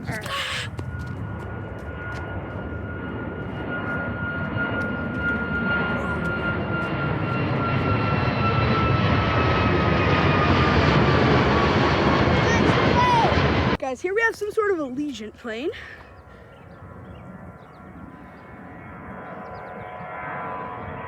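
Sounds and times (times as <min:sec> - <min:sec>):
jet airliner engines passing: 0:00.0 - 0:21.0.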